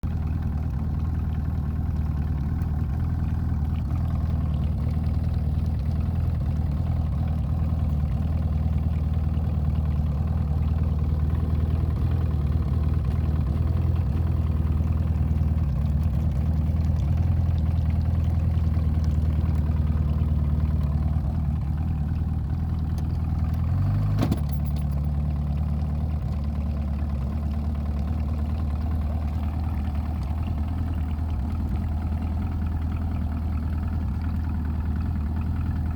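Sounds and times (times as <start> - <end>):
outboard motor idling roughly: 0.0 - 35.9.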